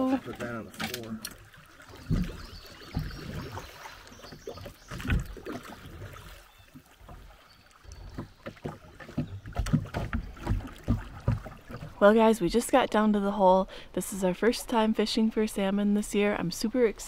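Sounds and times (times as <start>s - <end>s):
water moving along a hull: 0.0s - 17.0s.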